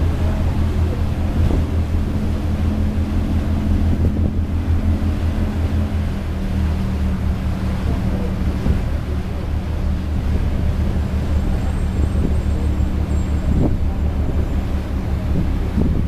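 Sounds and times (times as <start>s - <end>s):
ship engines rumbling: 0.0s - 16.0s
wind buffeting microphone: 0.0s - 16.0s.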